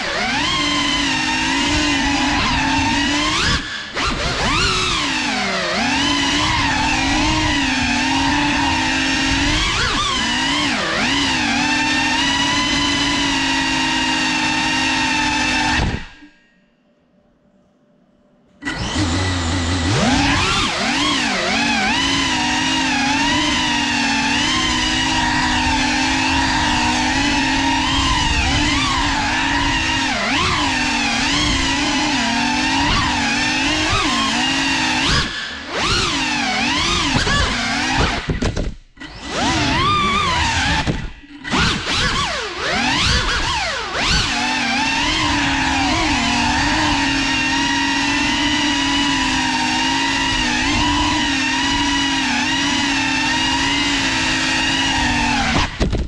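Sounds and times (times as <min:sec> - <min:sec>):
quadcopter motors whining: 0:00.0 - 0:16.4, 0:18.6 - 0:56.0.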